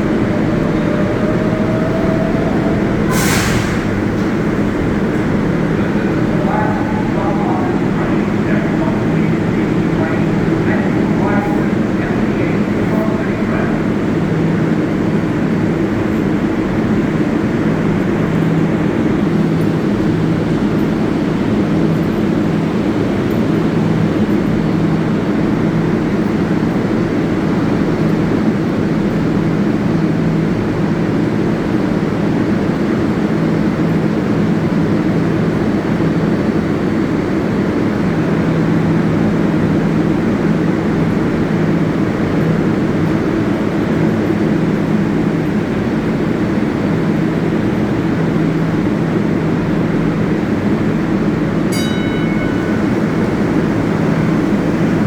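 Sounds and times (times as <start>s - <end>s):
subway train hum and rumble: 0.0s - 55.0s.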